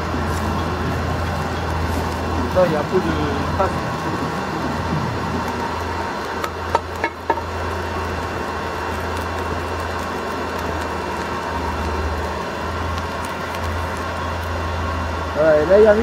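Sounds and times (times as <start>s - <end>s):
forge rushing hum: 0.0s - 16.0s.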